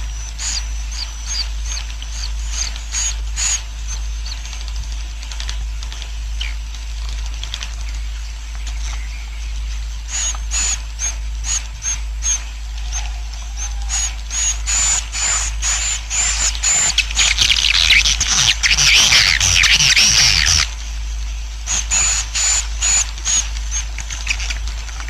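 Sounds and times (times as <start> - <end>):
hissy bird twittering: 0.0 - 4.8, 7.9 - 24.6.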